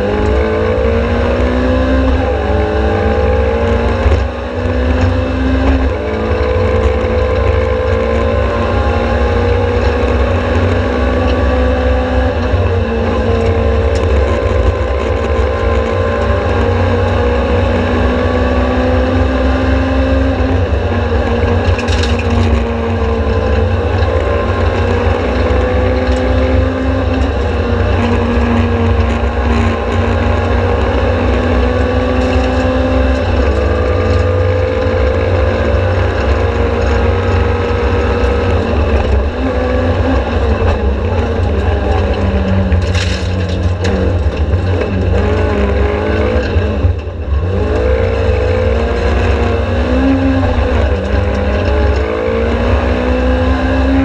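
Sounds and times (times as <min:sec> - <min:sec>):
low road and drivetrain rumble: 0:00.0 - 0:54.0
race car engine at full throttle: 0:00.0 - 0:54.0.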